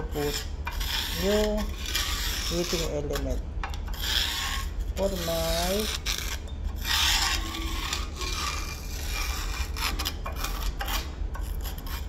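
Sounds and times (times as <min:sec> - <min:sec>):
screwdriver scraping metal: 0:00.0 - 0:12.0.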